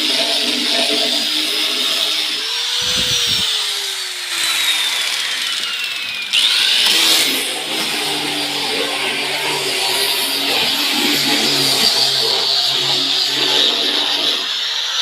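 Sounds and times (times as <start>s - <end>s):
electric sanding machine whine: 0.0s - 15.0s.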